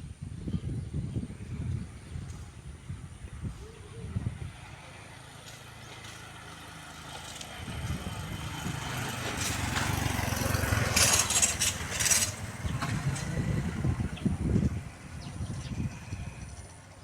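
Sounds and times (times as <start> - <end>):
motor engine running: 1.2 - 16.8.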